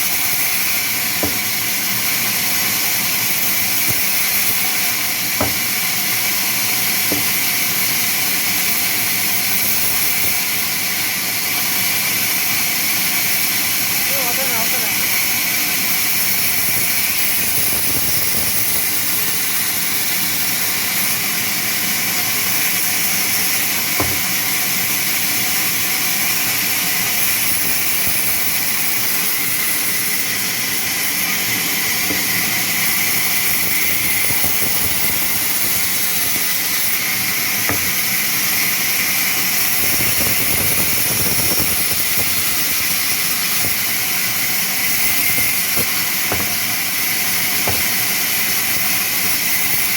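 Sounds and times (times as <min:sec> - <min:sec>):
sawmill machinery hissing: 0:00.0 - 0:49.9.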